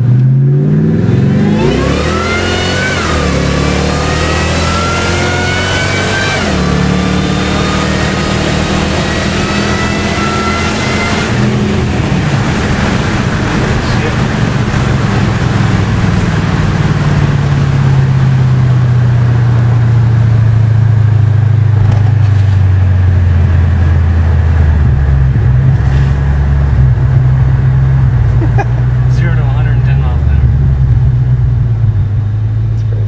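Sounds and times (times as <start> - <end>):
car engine droning: 0.0 - 33.0
road and wind noise: 0.0 - 33.0.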